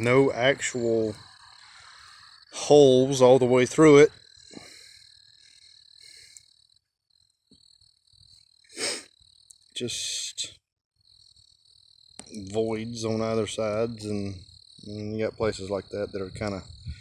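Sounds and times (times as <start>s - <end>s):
high-pitched insect-like trill: 0.0s - 17.0s.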